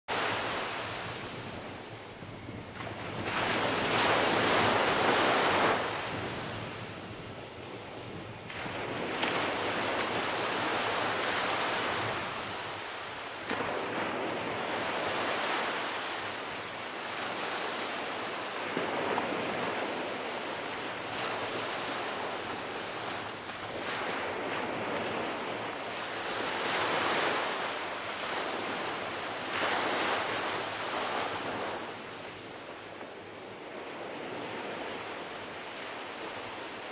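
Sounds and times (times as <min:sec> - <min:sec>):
ocean surf washing up beach: 0:00.1 - 0:36.9.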